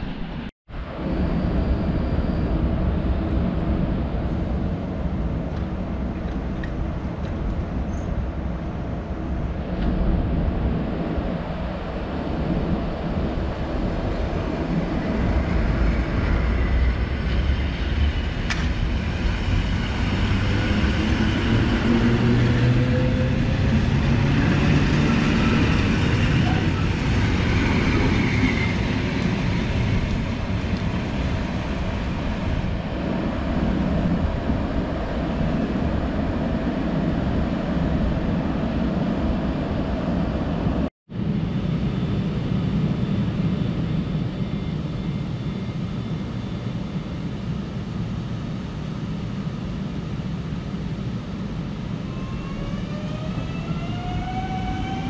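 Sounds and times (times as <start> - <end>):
electric train low hum: 0.0 - 55.0.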